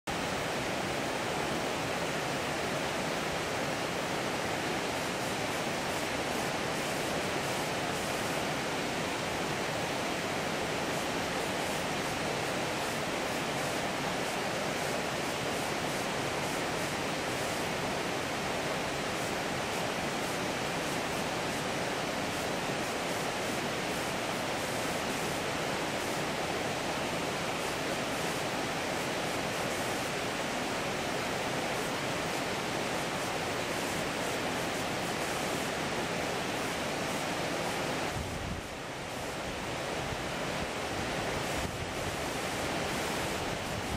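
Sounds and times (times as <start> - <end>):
river water rushing: 0.1 - 43.9.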